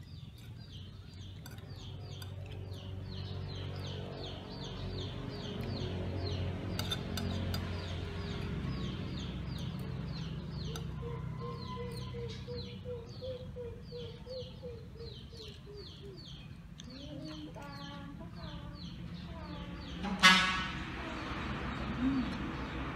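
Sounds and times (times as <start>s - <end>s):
chicks peeping: 0.0s - 20.4s.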